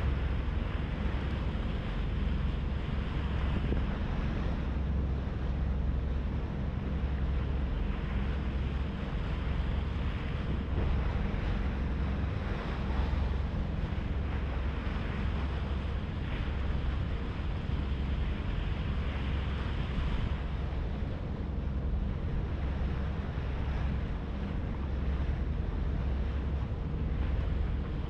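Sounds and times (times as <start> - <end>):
low engine drone: 0.0 - 28.0
water rushing along hull: 0.0 - 28.0
wind on microphone: 0.0 - 28.0.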